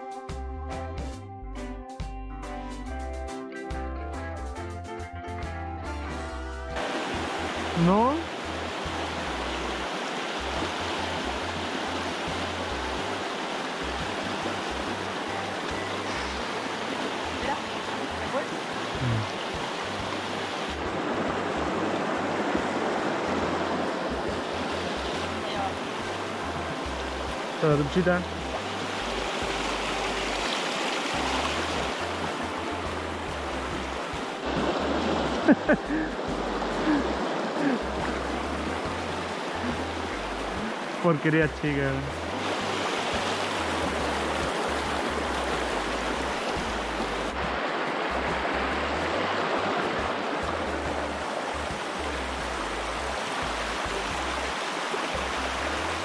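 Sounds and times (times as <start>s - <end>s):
river rapids rushing over rocks: 6.8s - 56.0s.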